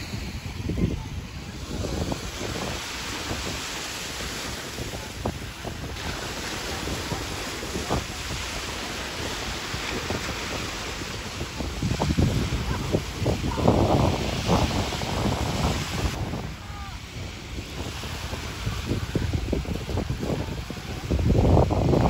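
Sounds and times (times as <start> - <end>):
steady rushing noise: 0.0 - 22.0
wind buffeting the microphone: 0.0 - 22.0.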